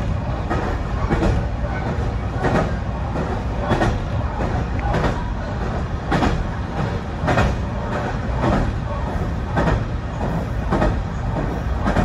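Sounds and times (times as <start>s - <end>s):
clacks over rail joints: 0.0s - 12.0s
train wheels rumbling on rail: 0.0s - 12.0s.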